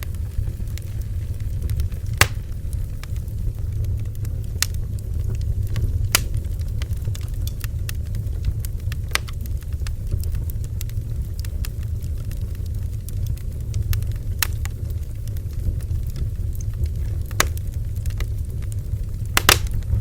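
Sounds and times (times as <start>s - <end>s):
bonfire flames rumbling: 0.0s - 20.0s
wood crackling and popping: 0.0s - 20.0s.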